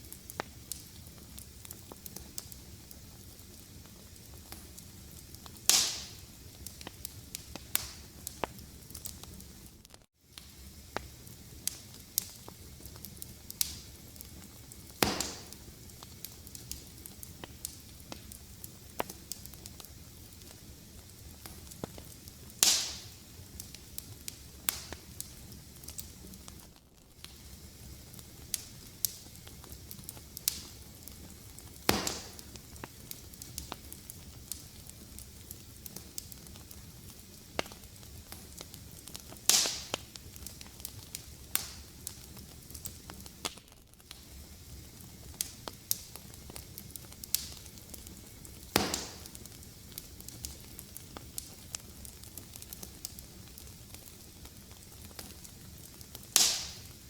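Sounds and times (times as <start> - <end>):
fireplace fire crackling: 0.0 - 57.0
loud pops of fire: 0.0 - 57.0.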